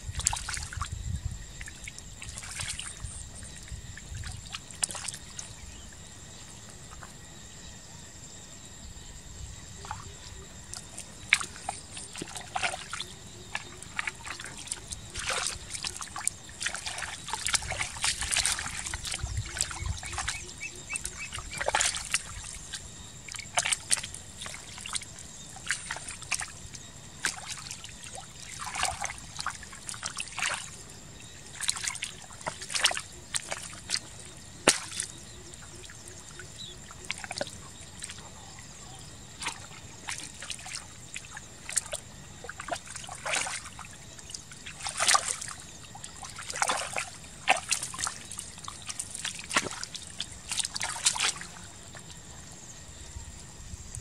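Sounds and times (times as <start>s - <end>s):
mud squelching and sloshing: 0.0s - 7.3s, 9.7s - 53.0s.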